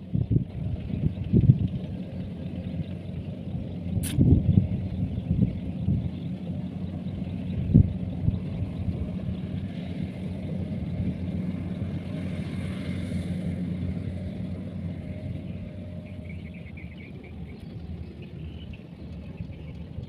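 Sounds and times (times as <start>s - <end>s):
combine harvester engine rumbling: 0.0s - 20.0s.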